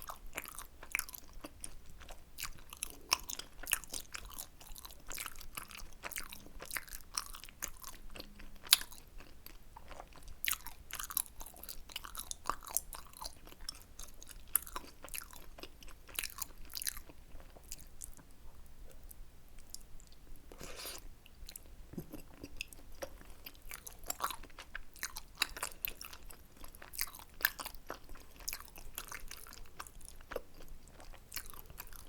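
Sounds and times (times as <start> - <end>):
chewing and biting mouth sounds: 0.0 - 18.3, 18.9 - 32.0.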